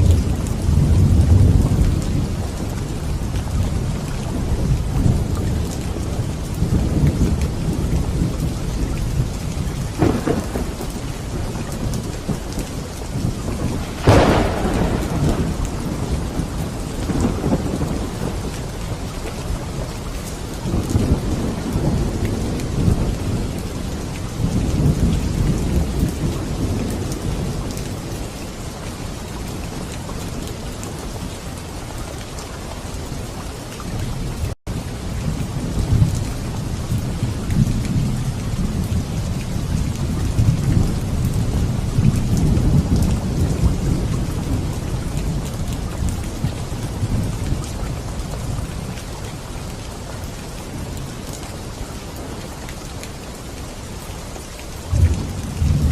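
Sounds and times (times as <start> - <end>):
thunder rumbling: 0.0 - 31.3, 34.7 - 49.0, 54.8 - 55.9
heavy rain falling: 0.0 - 55.9.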